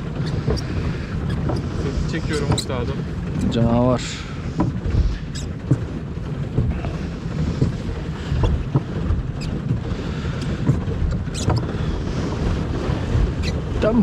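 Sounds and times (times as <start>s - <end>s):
boat hull churning water: 0.0s - 14.0s.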